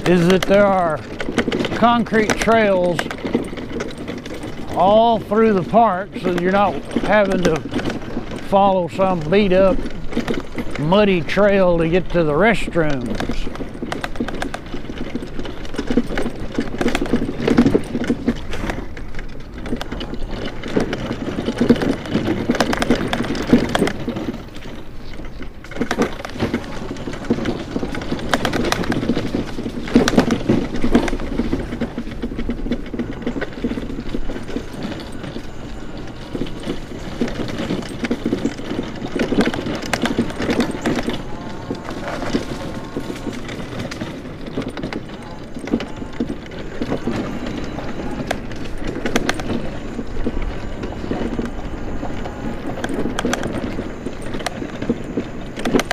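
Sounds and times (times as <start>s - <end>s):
scooter rattling on concrete: 0.0s - 55.9s.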